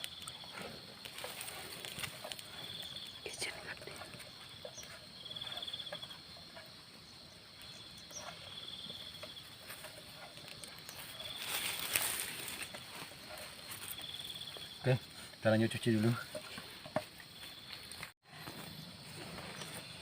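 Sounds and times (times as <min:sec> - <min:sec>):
insect trilling: 0:00.0 - 0:20.0.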